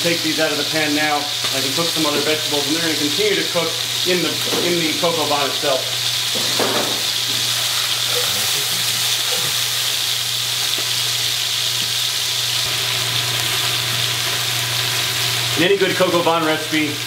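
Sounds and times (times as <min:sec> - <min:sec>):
food sizzling in hot fat: 0:00.0 - 0:17.0.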